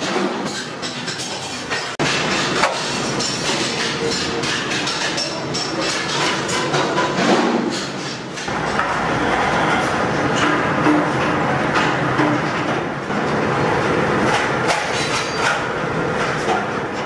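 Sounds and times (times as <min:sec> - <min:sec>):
workshop clatter: 0:00.0 - 0:17.0.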